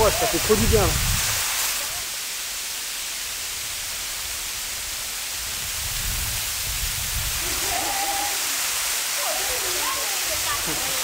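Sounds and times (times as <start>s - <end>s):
waterfall splashing into pool: 0.0s - 11.0s.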